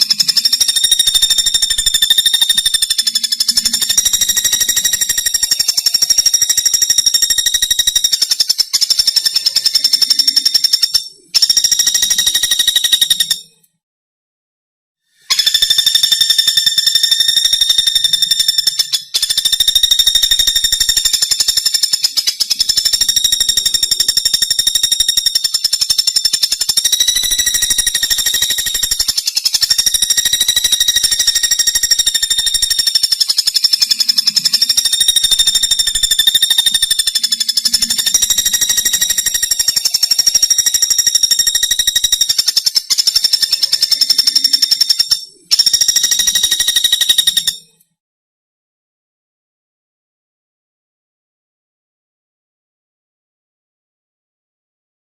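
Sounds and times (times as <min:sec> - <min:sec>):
woodpecker rattling trill: 0:00.0 - 0:13.7, 0:15.2 - 0:47.8.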